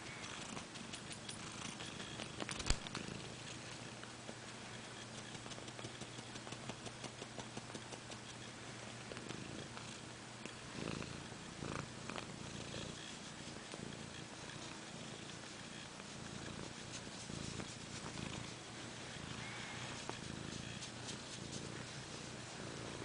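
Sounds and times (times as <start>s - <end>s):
pet snoring softly: 0.0s - 23.0s.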